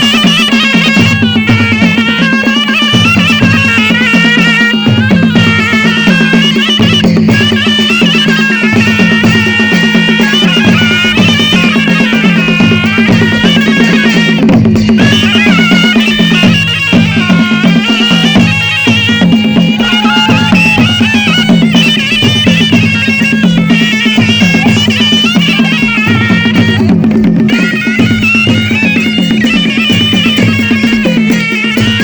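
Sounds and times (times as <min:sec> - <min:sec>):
drums beating rhythm: 0:00.0 - 0:32.0
shrill reed pipe melody: 0:00.0 - 0:32.0.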